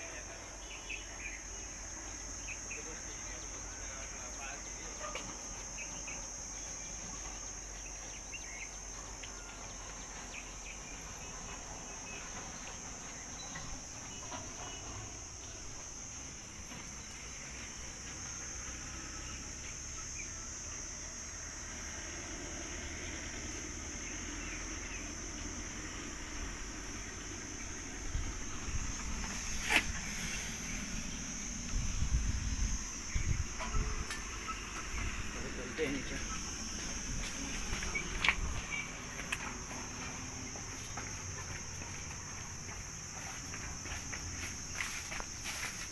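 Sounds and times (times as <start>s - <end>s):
high-pitched insect chirring: 0.1s - 45.9s.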